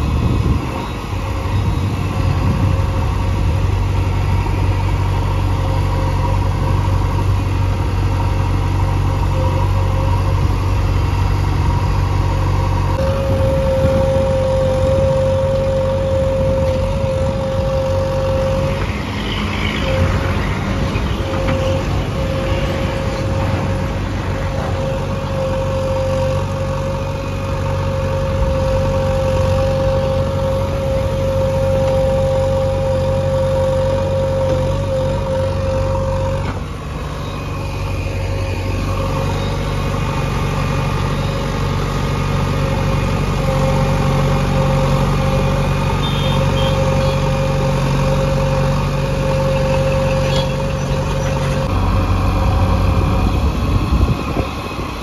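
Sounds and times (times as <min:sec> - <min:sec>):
diesel engine running: 0:00.0 - 0:55.0
steady whine: 0:00.0 - 0:55.0.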